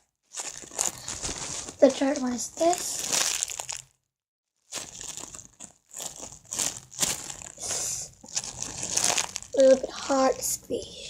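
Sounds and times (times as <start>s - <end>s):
plastic packaging crinkling: 0.3s - 4.0s, 4.6s - 10.0s.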